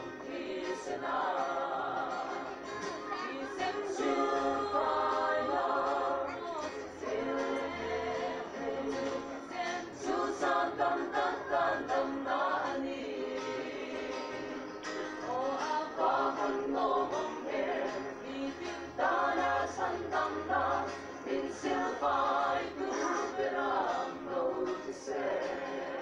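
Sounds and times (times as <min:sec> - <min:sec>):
acoustic guitar: 0:00.0 - 0:26.0
mixed choir singing: 0:00.0 - 0:26.0.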